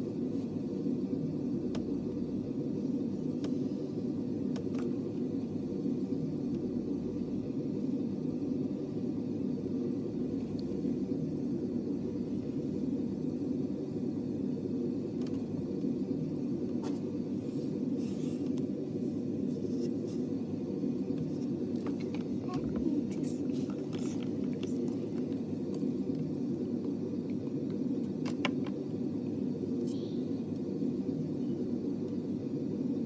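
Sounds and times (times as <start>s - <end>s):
low rumbling hum: 0.0s - 33.0s.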